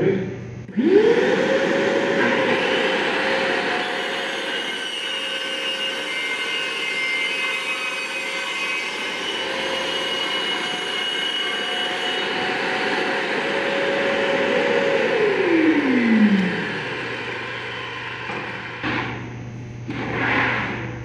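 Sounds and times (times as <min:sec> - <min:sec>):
circular saw cutting: 0:00.7 - 0:21.0.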